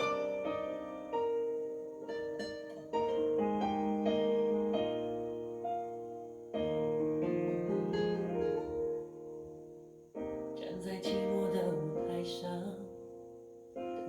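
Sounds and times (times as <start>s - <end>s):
piano playing slow chords: 0.0s - 14.0s.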